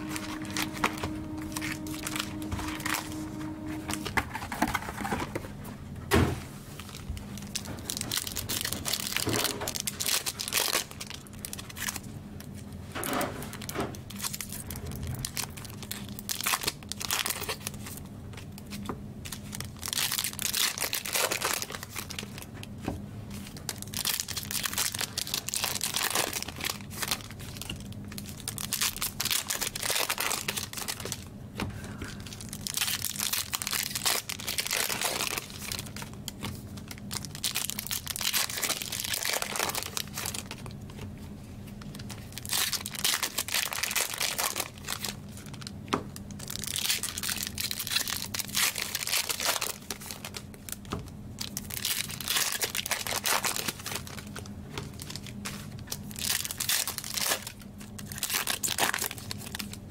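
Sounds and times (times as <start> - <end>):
plastic packaging crinkling and tearing: 0.0 - 5.5, 6.7 - 59.9.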